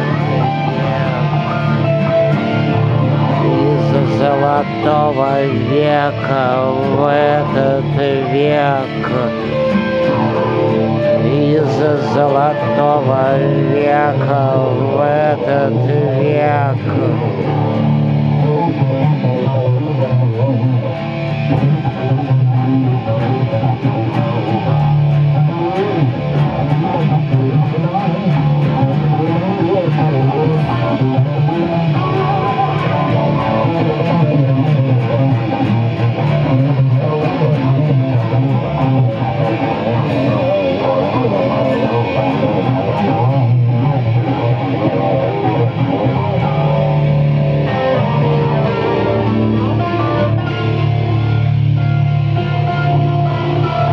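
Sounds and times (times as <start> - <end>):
acoustic guitar strummed: 0.0 - 53.9
electric guitar playing: 0.0 - 53.9.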